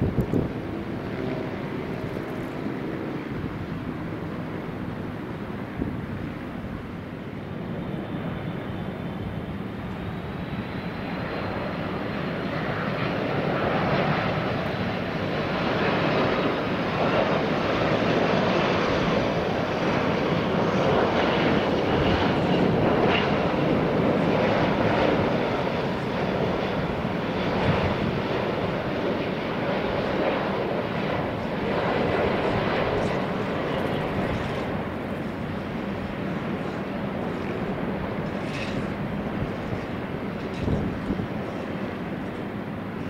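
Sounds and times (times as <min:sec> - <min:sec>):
jet engines rushing: 0:00.0 - 0:43.0.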